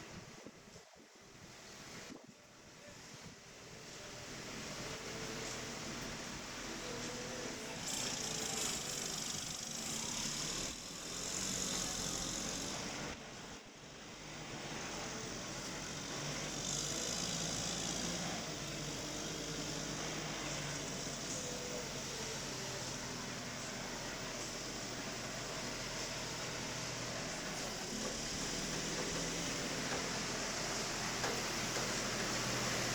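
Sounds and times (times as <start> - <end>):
constant hiss: 0.0 - 32.9
forklift engine running: 3.6 - 32.9.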